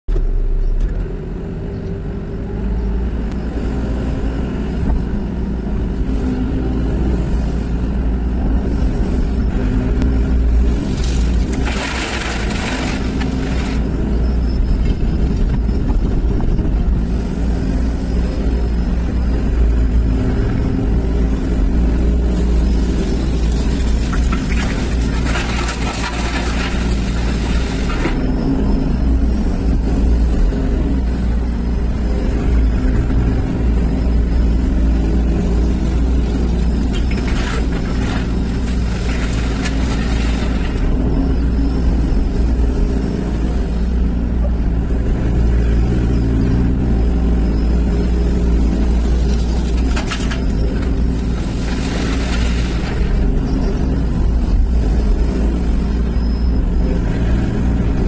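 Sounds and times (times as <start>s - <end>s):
excavator diesel engine running: 0.1s - 58.0s.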